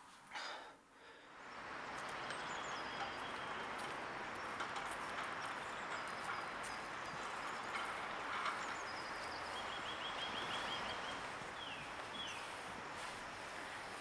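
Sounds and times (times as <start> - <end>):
park background noise: 0.3 - 14.0.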